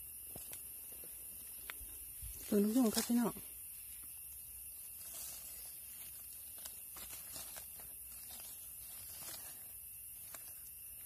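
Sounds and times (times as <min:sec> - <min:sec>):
dry leaf litter crackling: 0:01.4 - 0:11.0.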